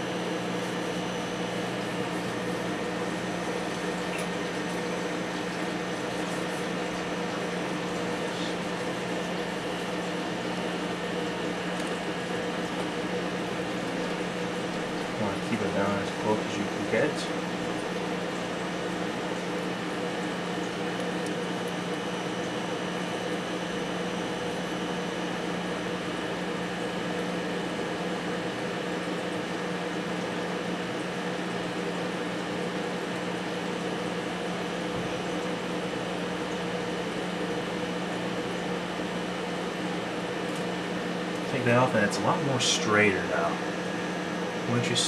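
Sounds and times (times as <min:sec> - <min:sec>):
appliance mechanical hum: 0:00.0 - 0:45.0.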